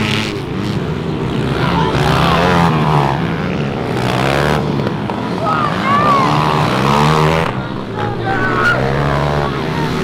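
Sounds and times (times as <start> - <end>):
pit bike engines revving: 0.0 - 10.0.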